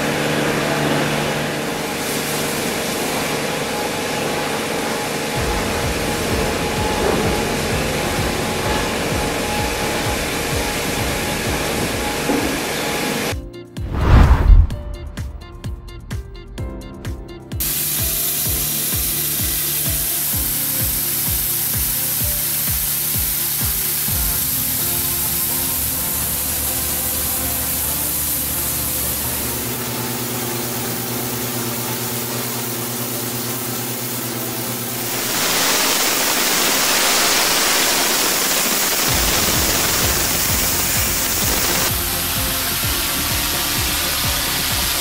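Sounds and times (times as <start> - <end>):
high-pressure water jet hissing: 0.0 - 13.3, 17.6 - 45.0
background music with steady beat: 3.5 - 37.0, 38.8 - 45.0.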